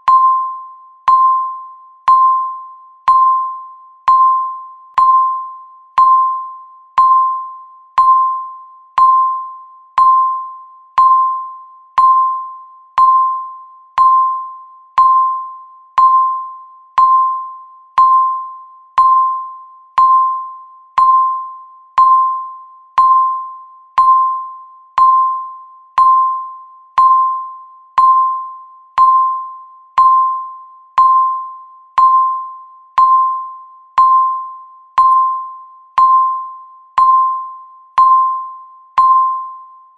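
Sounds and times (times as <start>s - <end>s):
countdown timer beeping: 0.0s - 39.7s.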